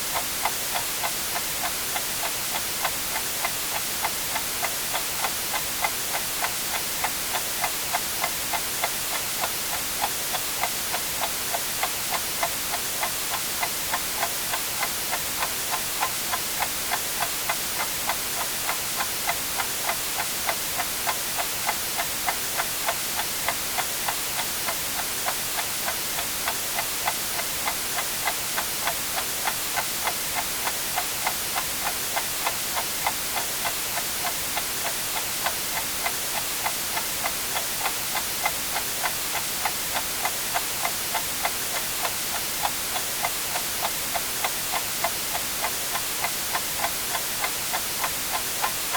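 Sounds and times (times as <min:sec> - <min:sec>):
white-noise hiss: 0:00.0 - 0:48.9
clock ticking: 0:00.2 - 0:48.9.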